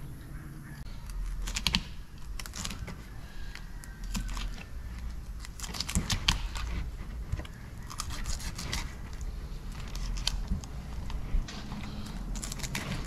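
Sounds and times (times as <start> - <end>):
knife scraping through fish: 1.3 - 13.0.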